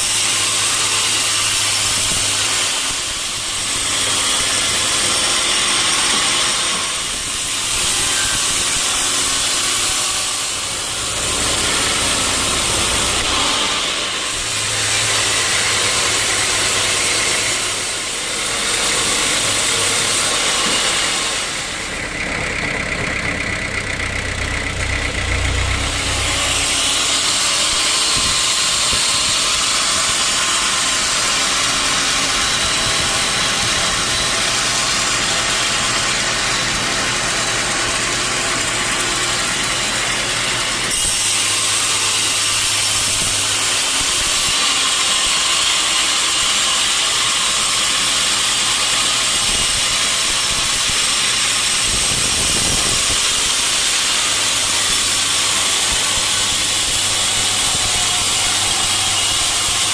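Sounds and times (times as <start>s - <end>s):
band saw motor humming: 0.0s - 59.9s.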